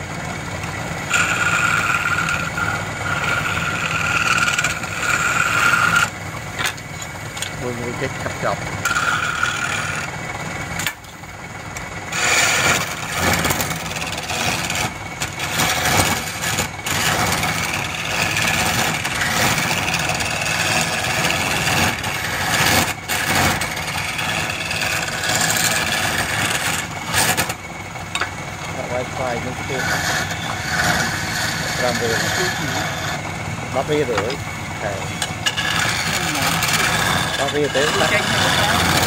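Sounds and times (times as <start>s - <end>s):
chisel scraping spinning wood: 0.0s - 39.0s
lathe motor hum: 0.0s - 39.0s.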